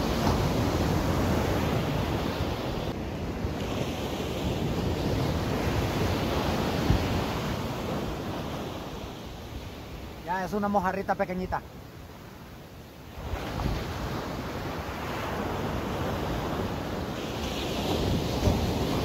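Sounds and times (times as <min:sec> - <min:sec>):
wind buffeting microphone: 0:00.0 - 0:10.2, 0:13.2 - 0:19.0
ocean surf breaking: 0:00.0 - 0:19.0.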